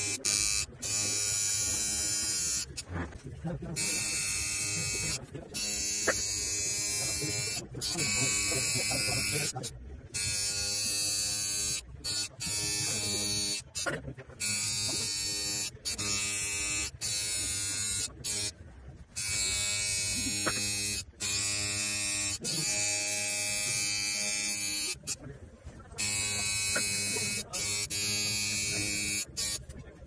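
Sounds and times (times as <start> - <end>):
tattoo machine buzzing: 0.0 - 2.8, 3.8 - 25.2, 26.0 - 29.7.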